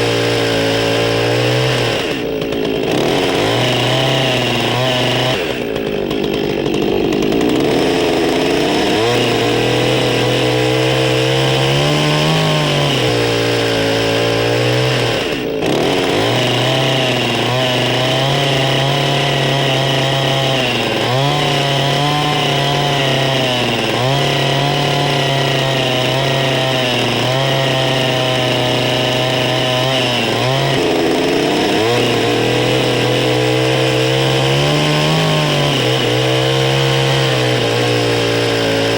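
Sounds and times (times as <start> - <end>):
chainsaw cutting into log: 0.0 - 38.9.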